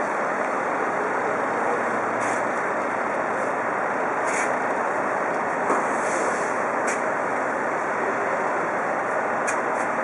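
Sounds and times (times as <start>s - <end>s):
vehicle engines running: 0.0s - 10.0s.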